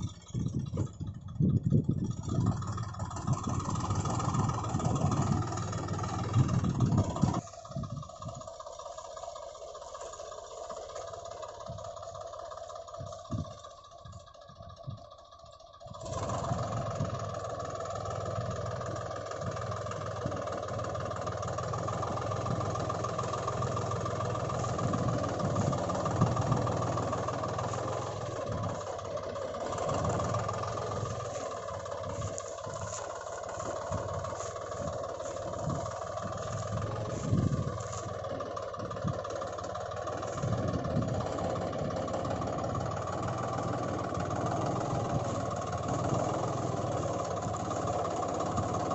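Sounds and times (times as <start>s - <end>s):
toy tractor engine drone: 0.0s - 48.9s.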